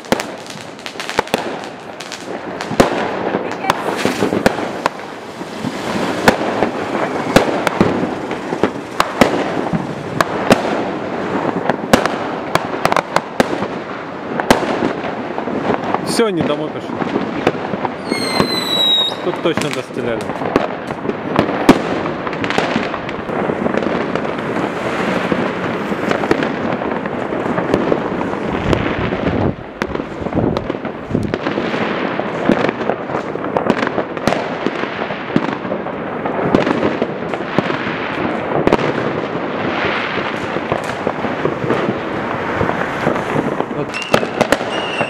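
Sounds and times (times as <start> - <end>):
fireworks and firecrackers banging: 0.0 - 45.0.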